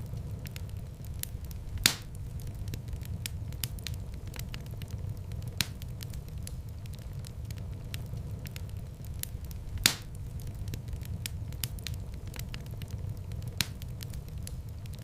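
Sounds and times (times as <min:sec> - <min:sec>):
loud fire pops: 0:00.0 - 0:15.0
wood fire rumbling and crackling: 0:00.0 - 0:15.0.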